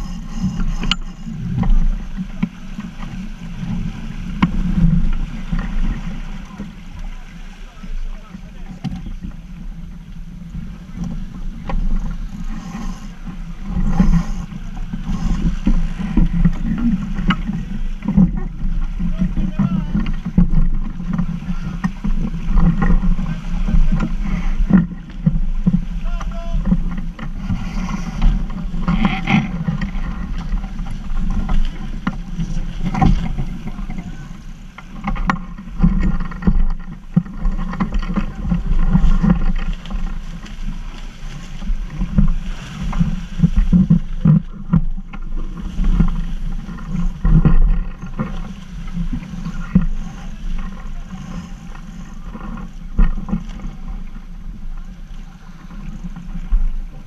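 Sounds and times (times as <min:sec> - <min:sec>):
water rushing along hull: 0:00.0 - 0:57.0.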